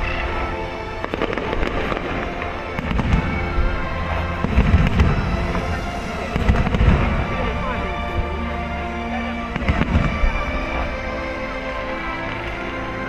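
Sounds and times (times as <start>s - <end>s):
background music: 0.0s - 13.0s
fireworks booming and crackling: 0.0s - 13.0s.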